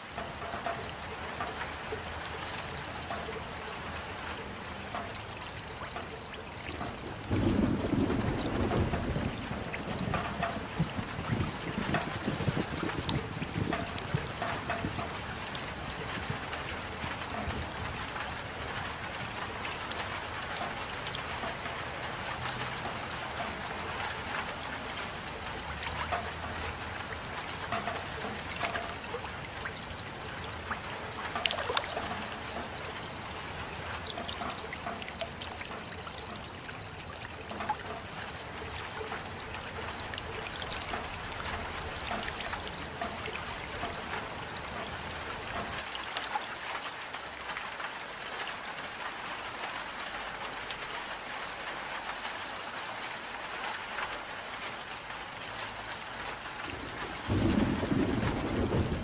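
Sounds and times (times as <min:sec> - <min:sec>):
close water drips: 0:00.0 - 0:59.0
rain patter: 0:00.0 - 0:59.0.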